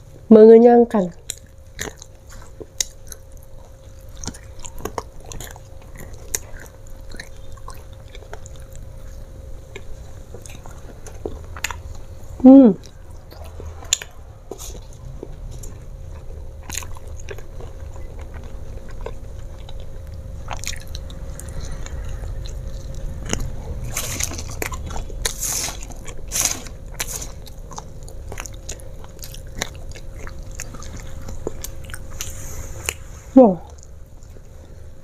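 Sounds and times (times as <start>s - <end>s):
chewing crunchy fried potato: 1.1s - 33.1s, 33.7s - 35.0s.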